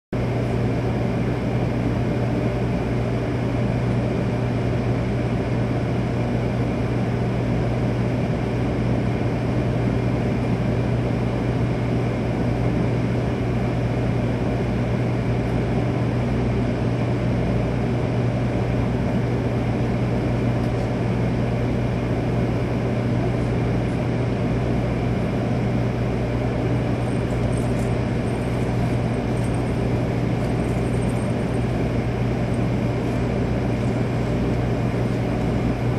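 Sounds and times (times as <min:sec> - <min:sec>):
train ventilation hum and rush: 0:00.2 - 0:35.9.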